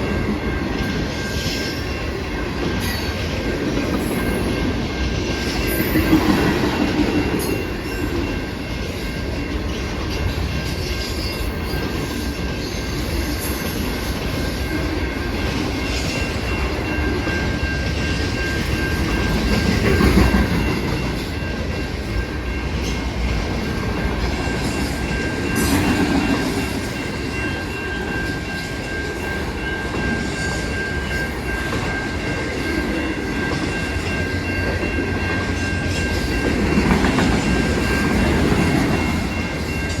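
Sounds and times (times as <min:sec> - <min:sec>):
train wheels over rail joints: 0:00.0 - 0:40.0.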